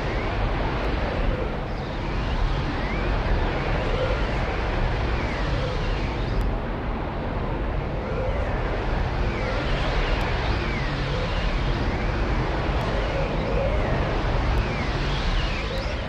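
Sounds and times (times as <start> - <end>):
whistling glides: 0.0 - 6.4, 8.0 - 16.0.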